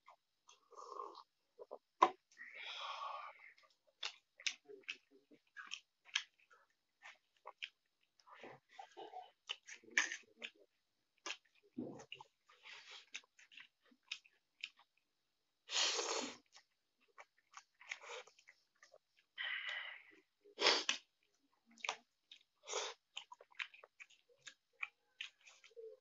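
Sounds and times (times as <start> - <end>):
wet chewing and smacking: 3.3 - 15.3, 16.2 - 26.0.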